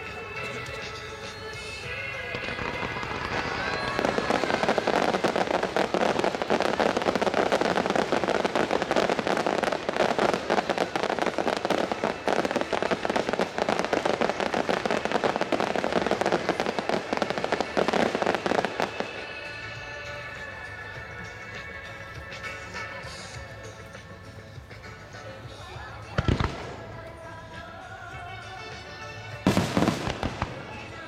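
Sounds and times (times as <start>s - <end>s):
fireworks bursts and crackles: 0.0s - 31.0s
music: 0.0s - 31.0s.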